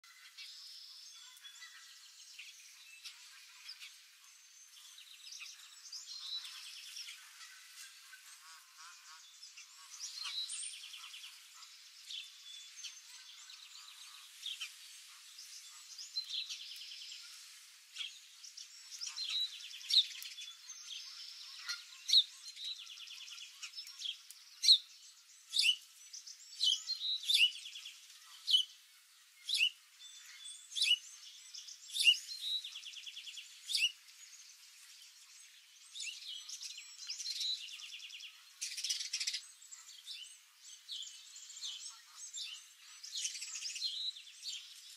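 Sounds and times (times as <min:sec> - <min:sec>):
songbird sharp chirps: 0:00.0 - 0:44.9.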